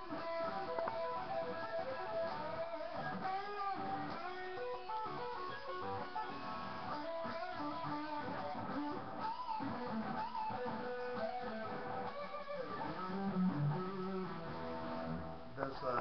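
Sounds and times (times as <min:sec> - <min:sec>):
electric guitar lead with bent notes: 0:00.0 - 0:16.0.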